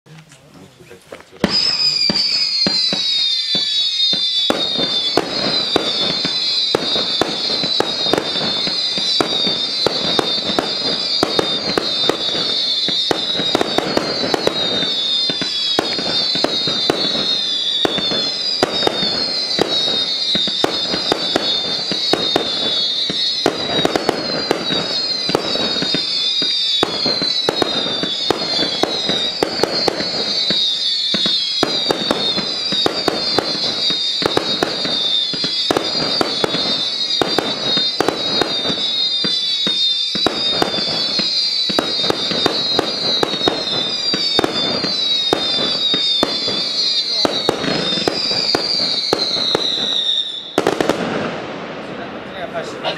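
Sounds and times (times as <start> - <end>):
firework pops: 1.1 - 51.8
firework whistles falling in pitch: 1.4 - 52.0.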